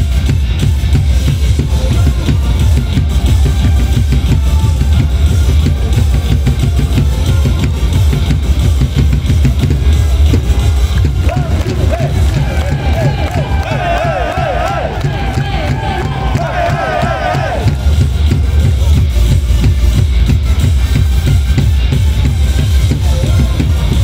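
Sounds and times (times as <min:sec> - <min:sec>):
dance music with pounding drums: 0:00.0 - 0:24.0.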